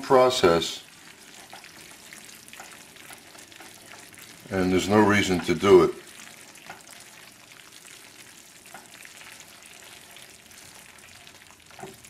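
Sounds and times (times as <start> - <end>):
roux sizzling in a pan: 0.0 - 12.0.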